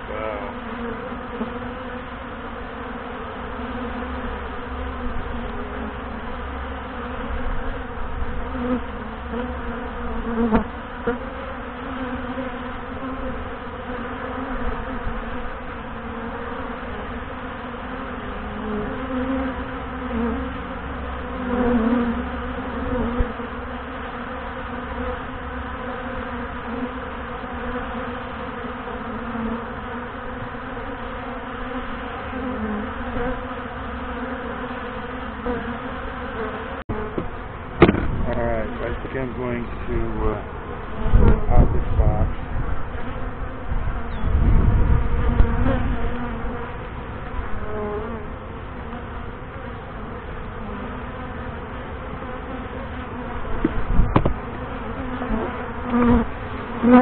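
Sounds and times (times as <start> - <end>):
bees buzzing at hive: 0.0 - 57.0.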